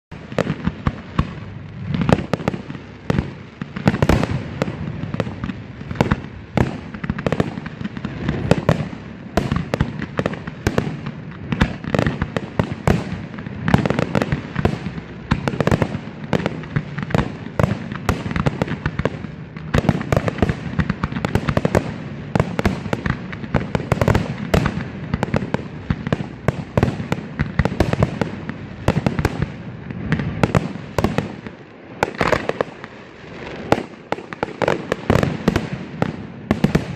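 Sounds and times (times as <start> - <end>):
continuous rumble: 0.1 - 36.9
fireworks bursting and crackling: 0.1 - 36.9.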